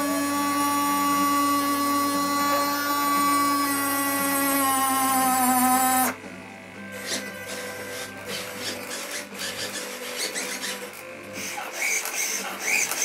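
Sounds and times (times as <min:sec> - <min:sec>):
electric gear motor whining: 0:00.0 - 0:06.2, 0:06.8 - 0:13.0.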